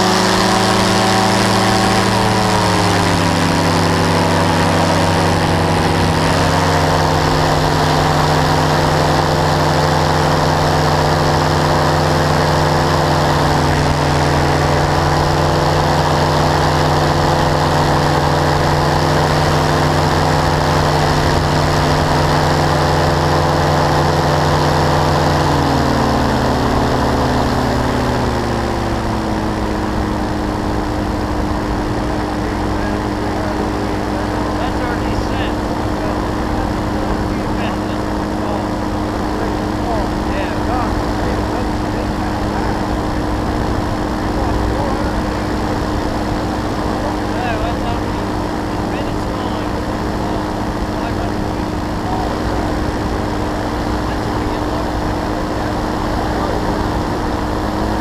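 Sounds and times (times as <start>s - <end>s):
engine and propeller running: 0.0s - 58.0s.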